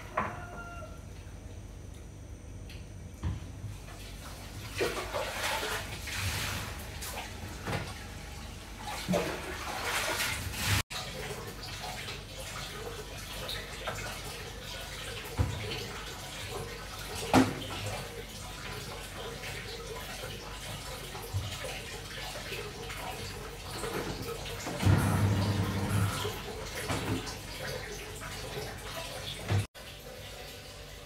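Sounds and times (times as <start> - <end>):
water sloshing in washing machine: 3.2 - 31.0.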